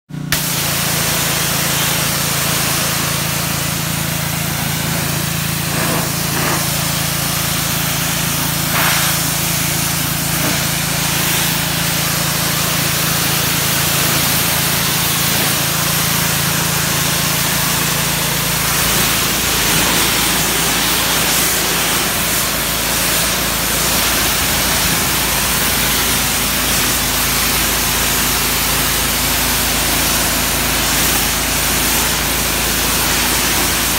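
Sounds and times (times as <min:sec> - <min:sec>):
pressure washer engine running: 0:00.1 - 0:33.9
high-pressure spray hissing: 0:00.3 - 0:33.9.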